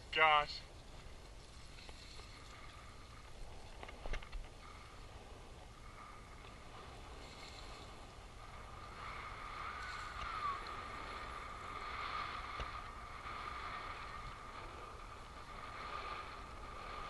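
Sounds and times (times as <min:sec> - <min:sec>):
low water noise: 0:00.0 - 0:17.0
electric trolling motor whining: 0:00.8 - 0:17.0.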